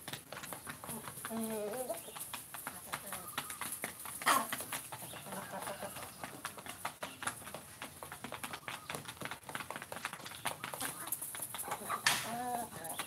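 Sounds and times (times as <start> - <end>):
beaks pecking: 0.0 - 13.0
chickens clucking: 0.0 - 13.0.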